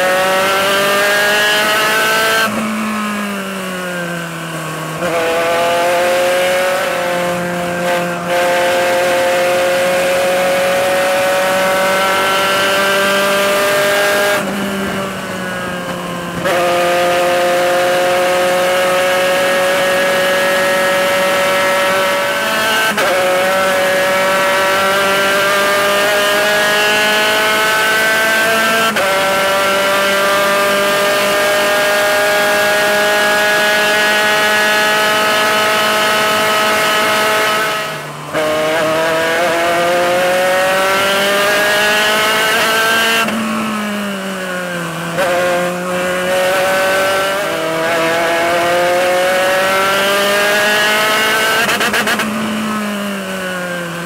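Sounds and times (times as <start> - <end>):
race car engine at full throttle: 0.0 - 54.0.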